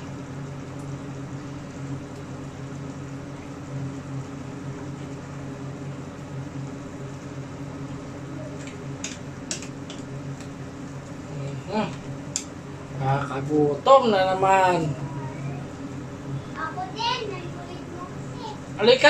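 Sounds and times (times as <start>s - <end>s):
low kitchen hum: 0.0s - 19.0s.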